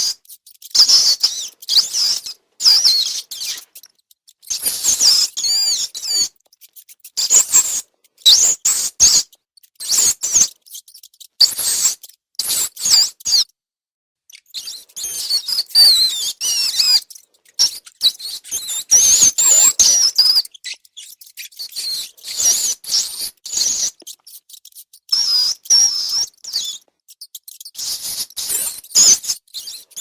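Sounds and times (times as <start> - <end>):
rats squeaking: 0.0 - 13.6, 14.3 - 30.0.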